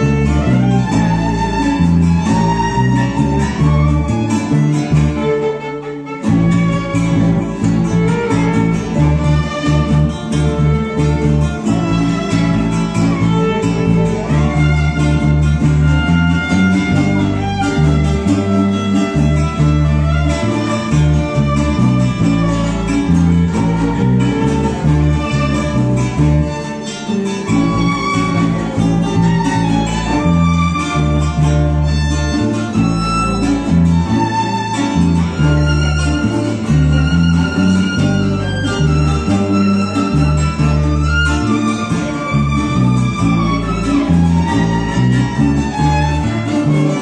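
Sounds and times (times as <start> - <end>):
string ensemble playing a waltz: 0.0 - 47.0.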